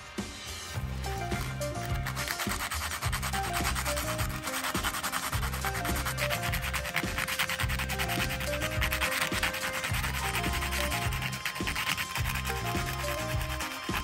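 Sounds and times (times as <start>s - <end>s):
background music with bass line: 0.0s - 14.0s
metal pin scratching sandpaper: 1.1s - 14.0s.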